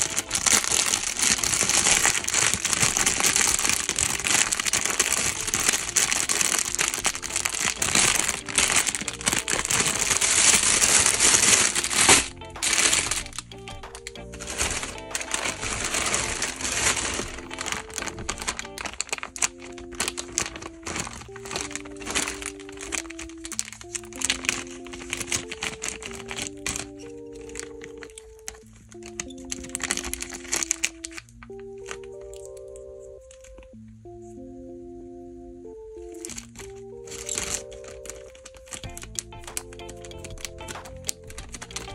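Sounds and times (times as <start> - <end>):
plastic bags crinkling: 0.0 - 33.8, 36.1 - 41.9
background music with held notes: 0.0 - 41.9.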